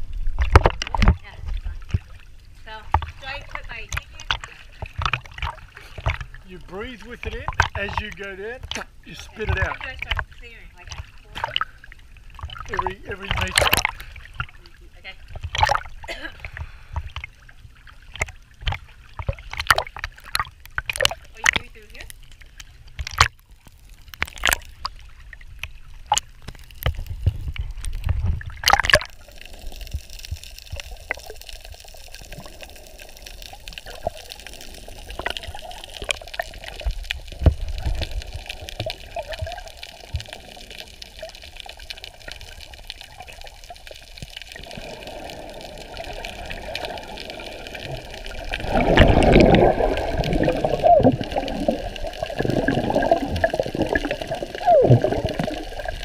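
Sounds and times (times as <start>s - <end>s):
water sloshing and gurgling: 0.0s - 56.0s
sharp water splashes: 0.4s - 56.0s.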